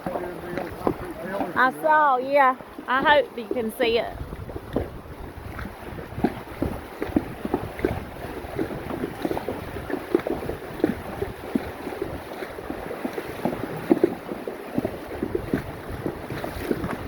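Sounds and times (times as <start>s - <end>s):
hooves splashing in water: 0.0s - 17.0s
wind rumbling on microphone: 0.0s - 17.0s.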